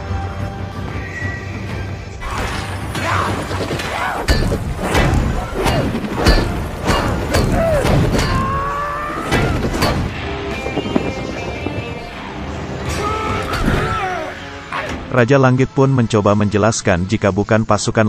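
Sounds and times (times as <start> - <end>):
action film music: 0.0 - 17.9.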